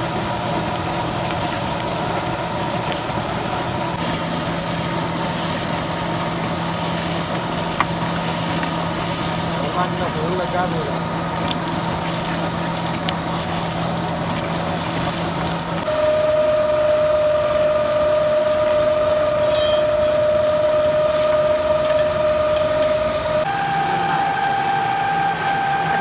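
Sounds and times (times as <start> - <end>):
heavy workshop machine whining: 0.0 - 26.0.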